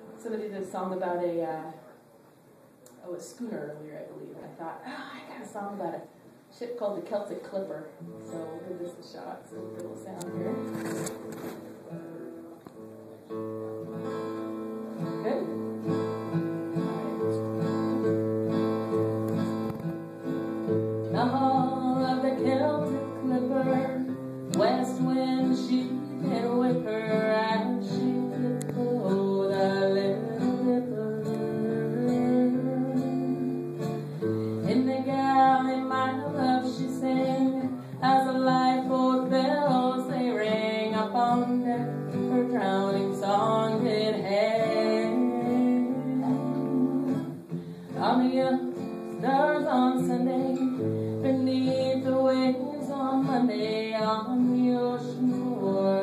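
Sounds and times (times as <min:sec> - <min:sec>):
woman singing folk song: 0:03.0 - 0:11.2, 0:14.0 - 0:56.0
acoustic guitar strumming: 0:07.5 - 0:56.0.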